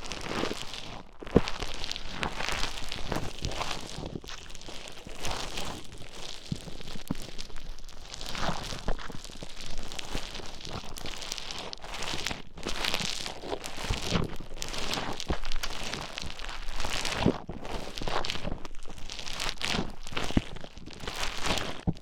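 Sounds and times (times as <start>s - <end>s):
bead dough crackling when kneaded: 0.0s - 22.0s.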